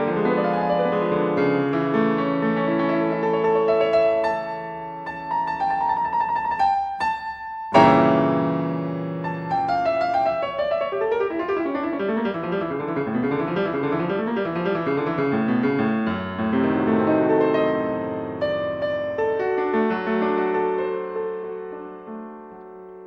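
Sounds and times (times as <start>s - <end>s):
solo piano playing: 0.0s - 23.0s.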